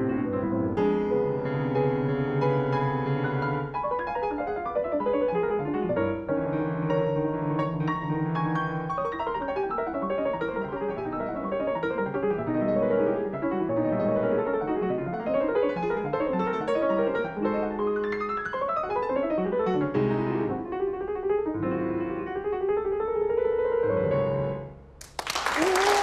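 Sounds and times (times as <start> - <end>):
solo grand piano: 0.0 - 26.0.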